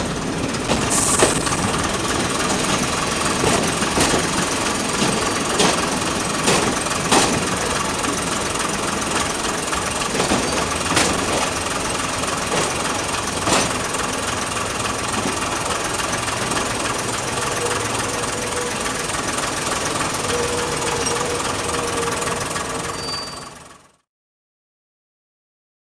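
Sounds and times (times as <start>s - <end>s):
wheels clacking over rail joints: 0.0s - 23.6s
train rumbling on track: 0.0s - 24.0s.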